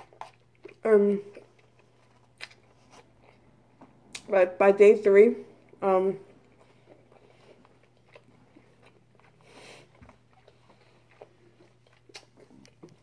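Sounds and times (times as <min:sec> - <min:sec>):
faint chewing: 0:00.0 - 0:04.3, 0:05.5 - 0:13.0.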